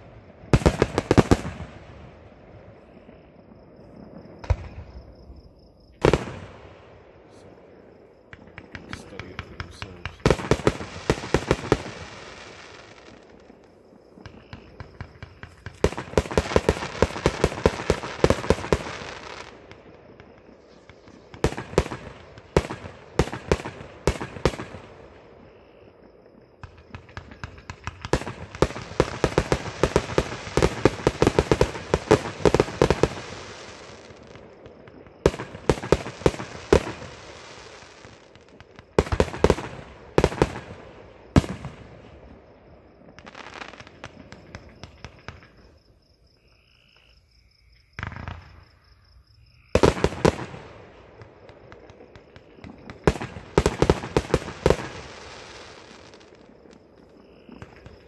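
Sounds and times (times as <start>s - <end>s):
fireworks crackling pops: 0.0s - 2.4s, 4.3s - 5.2s, 6.0s - 7.5s, 8.2s - 25.1s, 26.6s - 45.9s, 47.8s - 48.8s, 49.8s - 58.0s.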